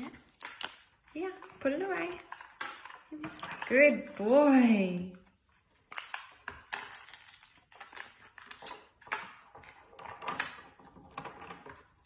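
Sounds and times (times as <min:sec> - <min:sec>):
clicks and clatter of small objects: 0:00.0 - 0:12.0.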